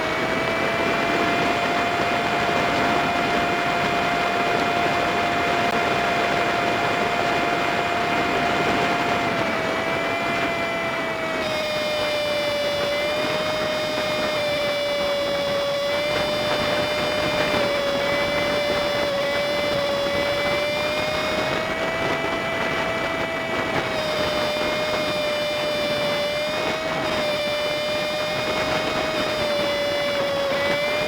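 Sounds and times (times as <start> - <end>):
sped-up small engine tone: 0.0 - 31.0
wind and road noise: 0.0 - 31.0.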